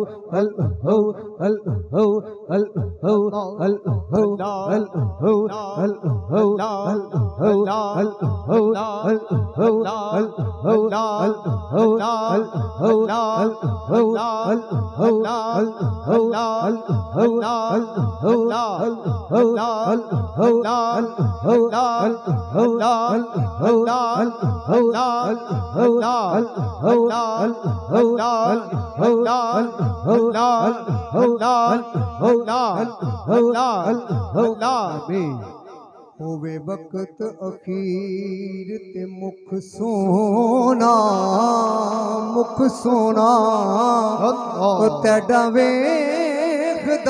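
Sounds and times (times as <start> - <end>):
droning vocal chanting: 0.0 - 47.0.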